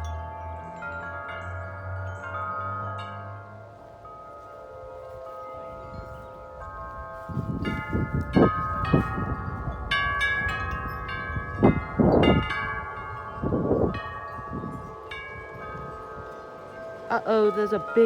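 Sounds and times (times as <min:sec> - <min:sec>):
wind chimes ringing: 0:00.0 - 0:18.0
wind buffeting microphone: 0:03.3 - 0:18.0.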